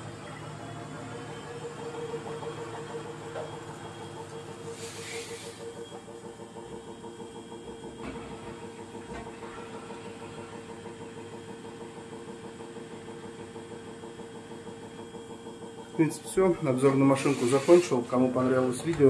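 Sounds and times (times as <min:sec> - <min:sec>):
washing machine drum spinning: 0:00.0 - 0:19.0.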